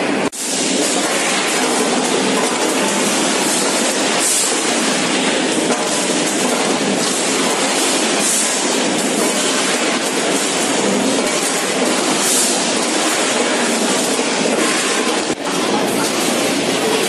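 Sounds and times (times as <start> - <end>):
packing machine running: 0.0 - 17.0.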